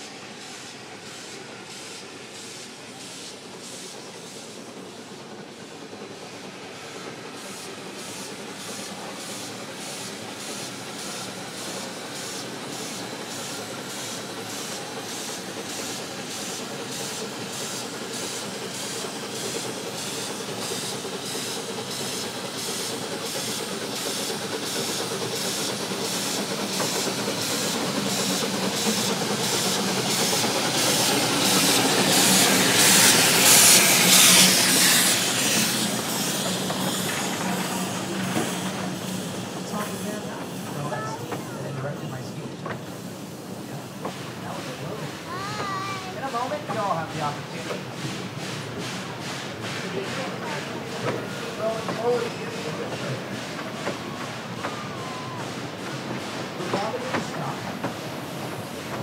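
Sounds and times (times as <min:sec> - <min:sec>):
hissing steam: 0:00.0 - 0:59.0
steam locomotive chuffing: 0:00.0 - 0:59.0.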